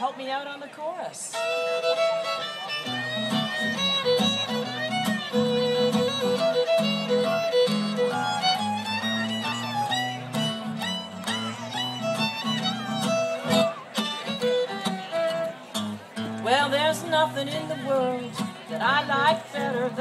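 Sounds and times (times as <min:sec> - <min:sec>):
fiddle melody: 0:01.2 - 0:20.0
acoustic guitar chords: 0:01.4 - 0:20.0.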